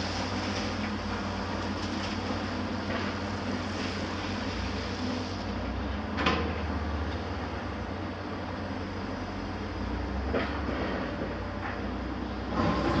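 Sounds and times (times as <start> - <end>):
excavator diesel engines running: 0.0 - 13.0.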